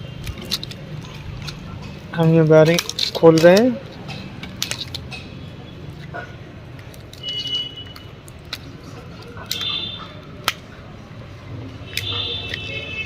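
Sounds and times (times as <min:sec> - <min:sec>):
handling noise: 0:00.0 - 0:11.0.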